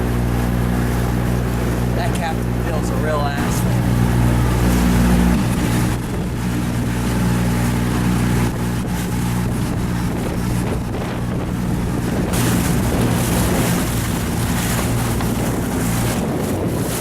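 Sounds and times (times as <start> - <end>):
boat engine humming: 0.0 - 17.0
water rushing past: 0.0 - 17.0
wind on microphone: 0.0 - 17.0.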